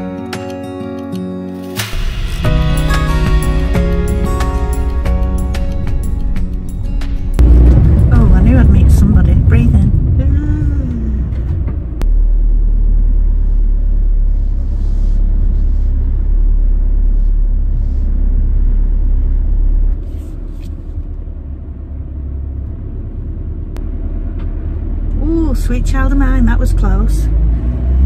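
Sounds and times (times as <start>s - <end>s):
van road and engine rumble: 1.7s - 28.0s.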